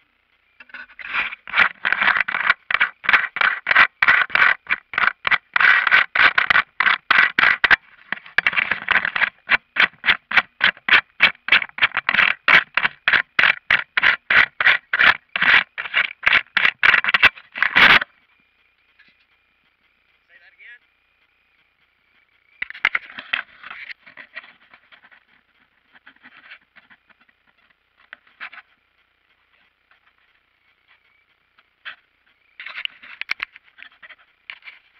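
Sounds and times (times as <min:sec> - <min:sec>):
rubbing on microphone: 0:00.6 - 0:20.4, 0:21.5 - 0:34.9.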